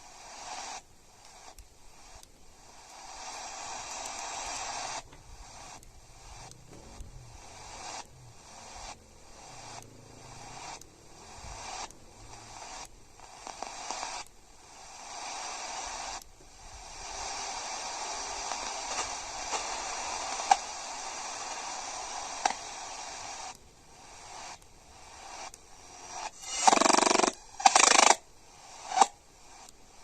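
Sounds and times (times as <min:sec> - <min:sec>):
radio static hiss: 0:00.0 - 0:30.0
sharp clicks: 0:00.4 - 0:10.0, 0:10.6 - 0:23.6, 0:24.2 - 0:29.8.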